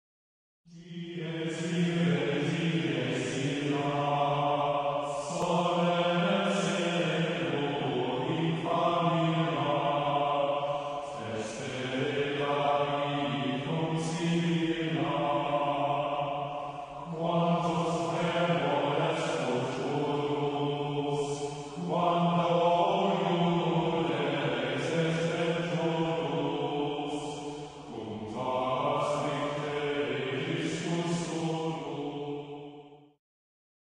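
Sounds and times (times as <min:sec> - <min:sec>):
chant-like held tones: 0:00.7 - 0:33.1.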